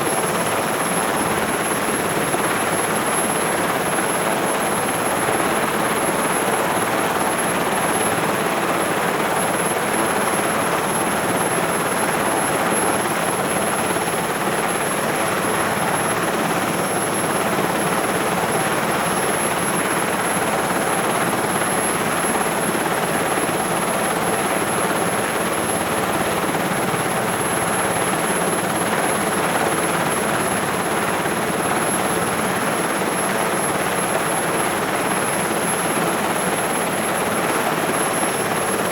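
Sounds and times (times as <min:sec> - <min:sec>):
helicopter idling roar: 0:00.0 - 0:38.9.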